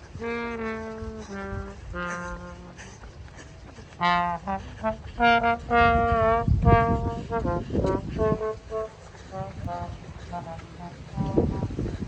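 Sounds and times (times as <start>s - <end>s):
trombone playing held notes: 0.1s - 2.9s, 4.0s - 12.0s.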